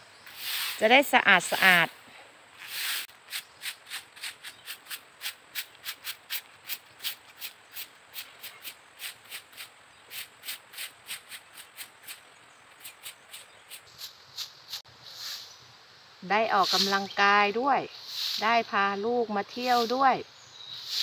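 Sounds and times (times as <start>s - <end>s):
broom sweeping leaves on asphalt: 0.2s - 21.0s.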